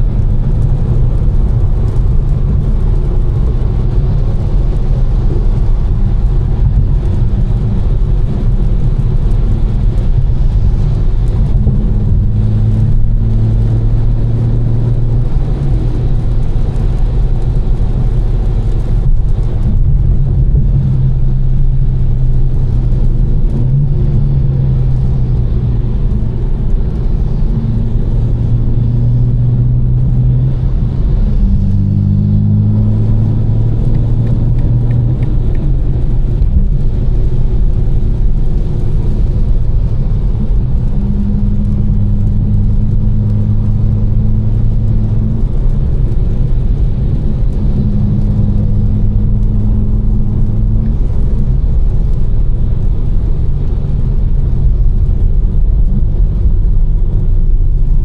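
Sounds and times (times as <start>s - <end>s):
car engine droning: 0.0s - 58.0s
tyres hissing on wet road: 0.0s - 58.0s.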